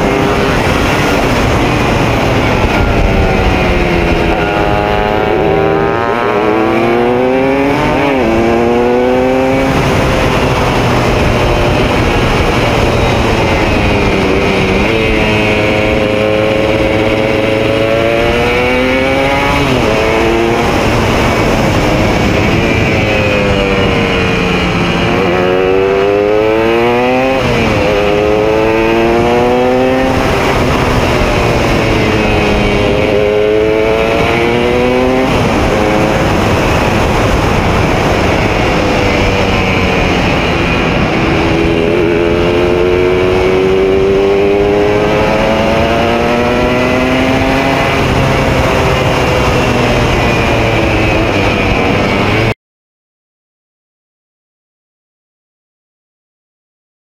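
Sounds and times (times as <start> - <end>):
racing motorcycle engine accelerating: 0.0 - 52.6
steady rushing noise: 0.0 - 52.6.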